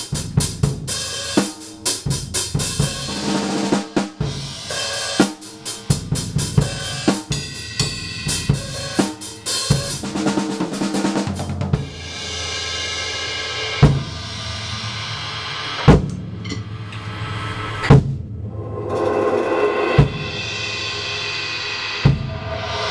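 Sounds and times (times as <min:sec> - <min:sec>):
snare and tom drum strokes: 0:00.0 - 0:12.4, 0:13.8 - 0:22.9.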